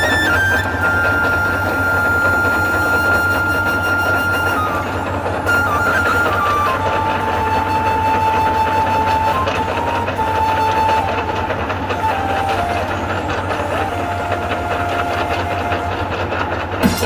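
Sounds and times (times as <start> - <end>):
high held tone: 0.0 - 17.0
snow blower rumbling: 0.0 - 17.0.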